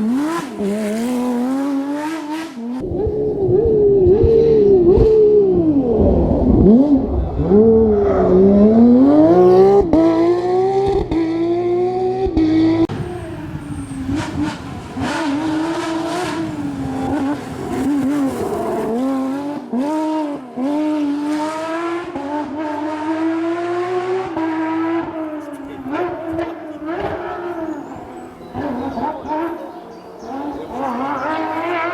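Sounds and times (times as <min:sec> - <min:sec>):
race car engine revving: 0:00.0 - 0:31.9.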